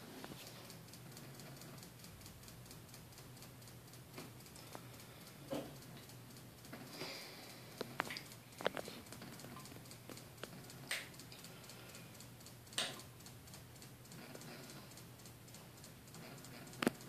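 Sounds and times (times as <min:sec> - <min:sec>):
fan motor hum: 0:00.0 - 0:17.0
light ticking: 0:00.2 - 0:17.0.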